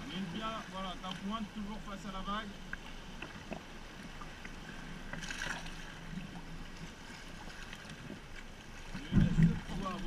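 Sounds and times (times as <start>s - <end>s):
water lapping against kayak hull: 0.0s - 10.0s.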